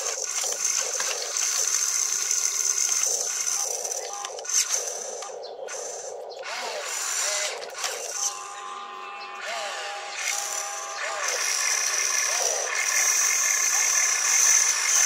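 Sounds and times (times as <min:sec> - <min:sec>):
electric motors whining and grinding: 0:00.0 - 0:15.0
steady higher whine: 0:00.0 - 0:15.0.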